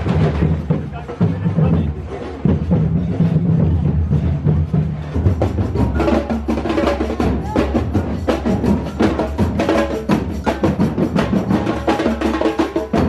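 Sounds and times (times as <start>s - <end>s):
music with percussive beat: 0.0s - 13.0s.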